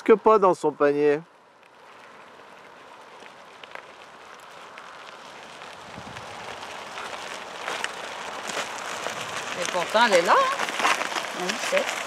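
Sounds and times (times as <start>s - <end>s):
bicycle tyres crunching on gravel: 0.0s - 12.0s.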